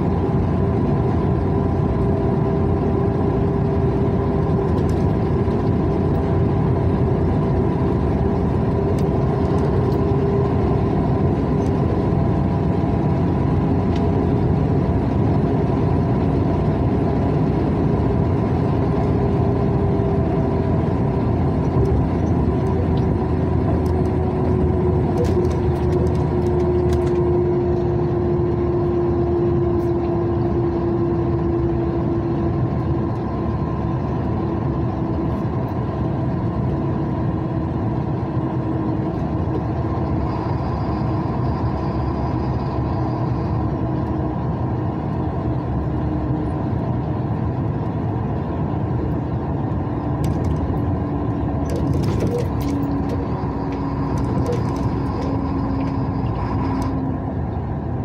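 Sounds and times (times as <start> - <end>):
vehicle engine and tyre drone: 0.0 - 58.0.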